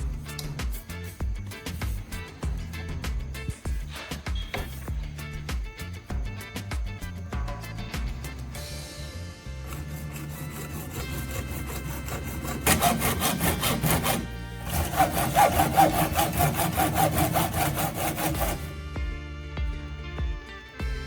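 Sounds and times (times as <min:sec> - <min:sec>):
rhythmic scraping strokes: 0:00.0 - 0:18.8.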